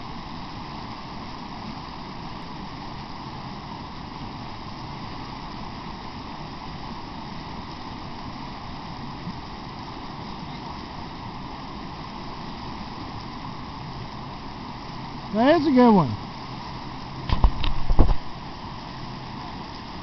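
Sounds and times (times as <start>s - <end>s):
river rushing over riffles: 0.0s - 20.0s.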